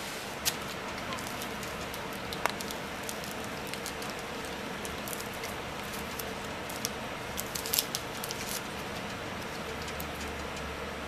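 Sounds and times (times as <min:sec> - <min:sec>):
room hiss and faint hum: 0:00.0 - 0:11.0
small clicks and crinkles: 0:00.4 - 0:10.7.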